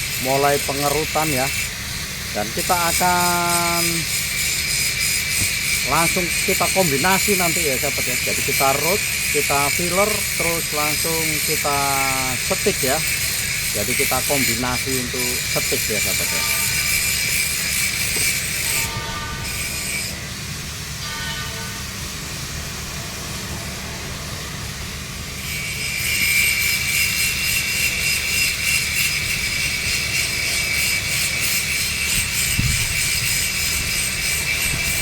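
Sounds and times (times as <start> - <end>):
welding arc hissing: 0.0 - 35.0.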